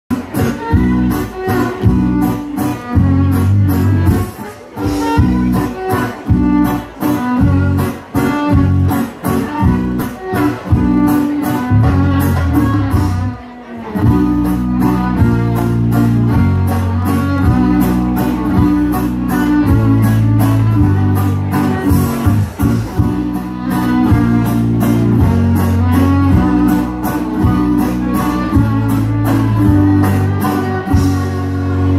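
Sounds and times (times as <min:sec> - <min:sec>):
deep bass line: 0:00.1 - 0:13.4, 0:14.0 - 0:31.9
driving beat: 0:00.1 - 0:31.9
fiddle: 0:00.1 - 0:31.9
rhythmic guitar chords: 0:00.1 - 0:31.9.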